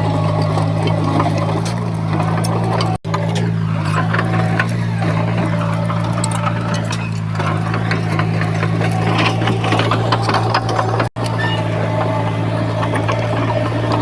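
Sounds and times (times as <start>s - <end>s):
diesel machinery running: 0.0s - 14.0s.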